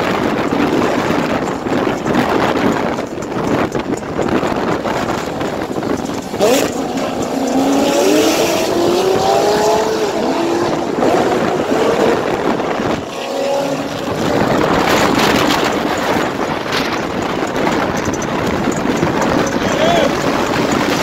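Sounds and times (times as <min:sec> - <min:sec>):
car engine accelerating hard: 0:00.0 - 0:21.0
wind noise: 0:00.0 - 0:21.0.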